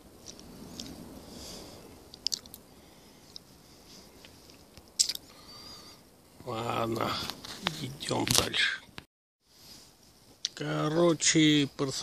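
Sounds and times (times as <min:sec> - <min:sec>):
leaves rustling: 0:00.0 - 0:08.7, 0:09.4 - 0:11.7.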